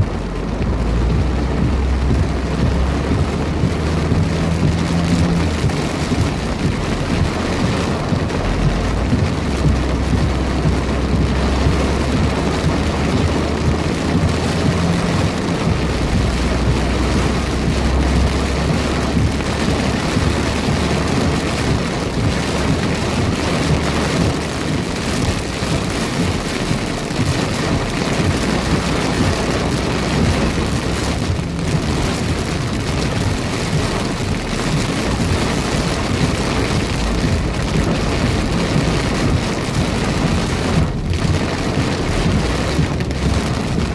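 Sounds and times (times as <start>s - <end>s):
deep low thunder rumble: 0.0s - 43.9s
heavy rain: 0.0s - 43.9s.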